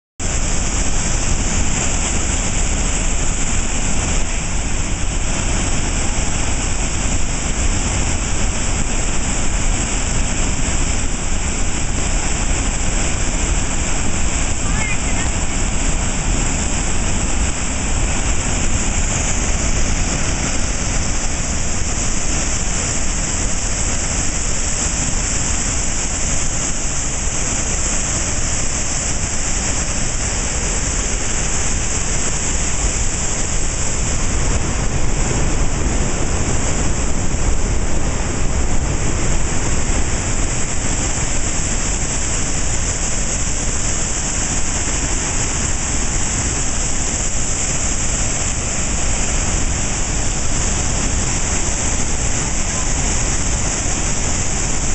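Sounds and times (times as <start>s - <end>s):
waterfall rushing: 0.2s - 54.9s.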